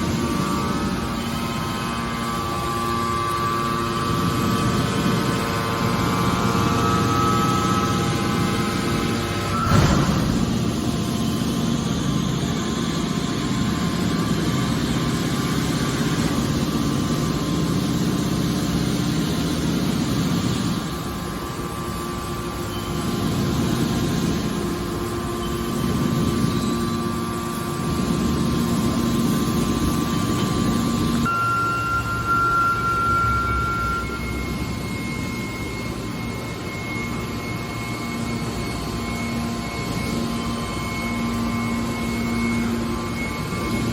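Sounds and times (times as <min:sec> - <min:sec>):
machine drone: 0:00.0 - 0:43.9
thin constant whine: 0:00.0 - 0:43.9.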